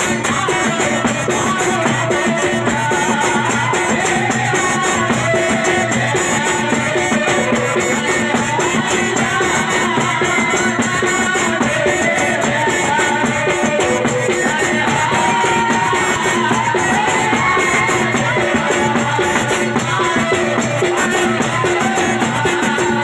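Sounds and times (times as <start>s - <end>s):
driving drum beat: 0.0s - 23.0s.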